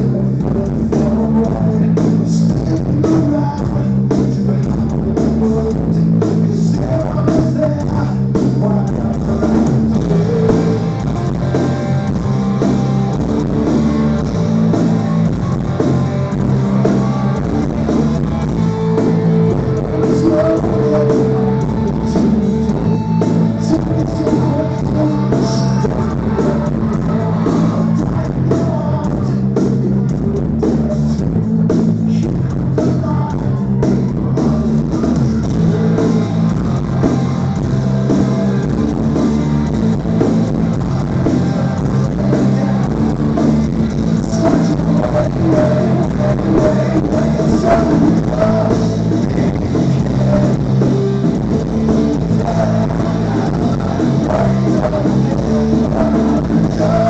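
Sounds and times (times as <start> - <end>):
drum kit beat: 0.0 - 57.0
electric guitars and bass: 0.0 - 57.0
person singing: 0.0 - 57.0.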